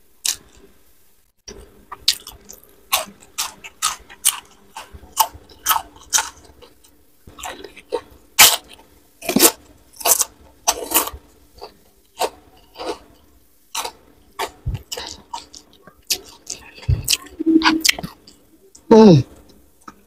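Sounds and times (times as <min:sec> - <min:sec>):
chewing crunchy food: 0:00.2 - 0:00.7, 0:01.5 - 0:17.3.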